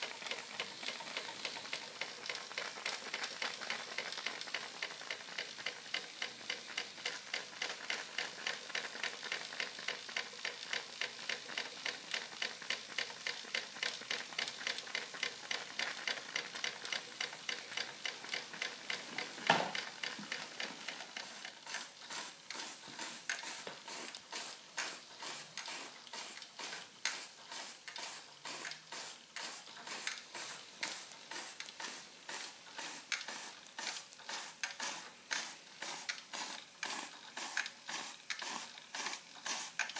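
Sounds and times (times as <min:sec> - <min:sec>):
toy steam engine chuffing: 0:00.0 - 0:19.3, 0:20.0 - 0:39.9.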